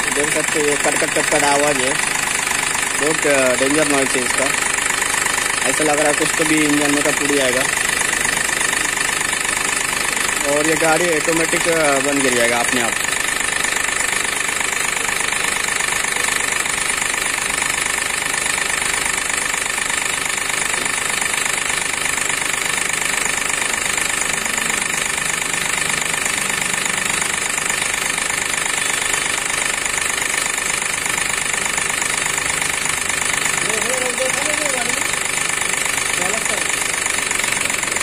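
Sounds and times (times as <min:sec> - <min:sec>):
engine idling with rapid knocking: 0:00.0 - 0:38.0.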